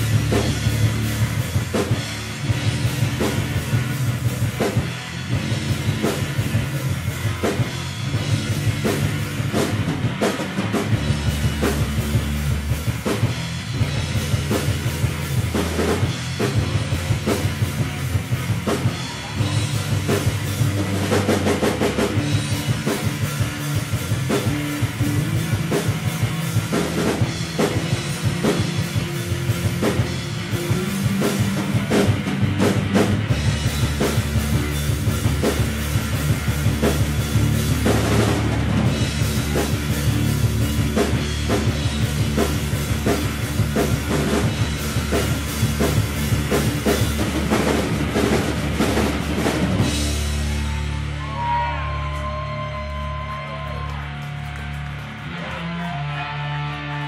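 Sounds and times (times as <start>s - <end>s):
drum kit beating: 0.0s - 57.0s
electric guitar: 0.0s - 57.0s.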